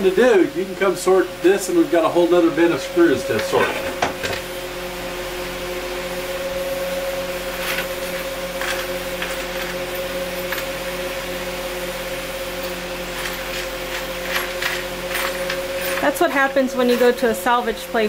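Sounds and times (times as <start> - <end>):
small motor humming: 0.0 - 18.0.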